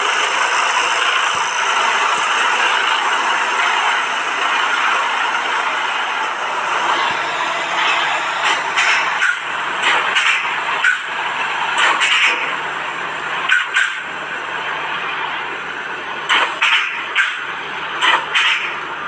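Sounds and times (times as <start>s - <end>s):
truck rolling past: 0.0s - 18.0s.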